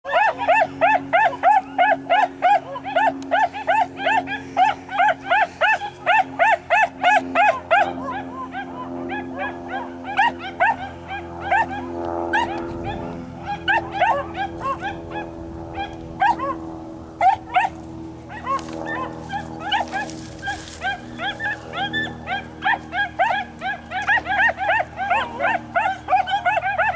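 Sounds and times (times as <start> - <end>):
dog baying in yelps: 0.1 - 16.6, 17.2 - 26.9.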